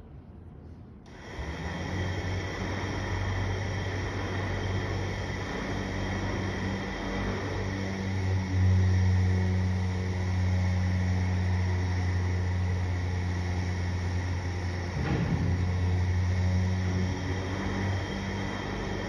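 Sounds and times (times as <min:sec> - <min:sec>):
electric winch hum: 0:01.0 - 0:19.0.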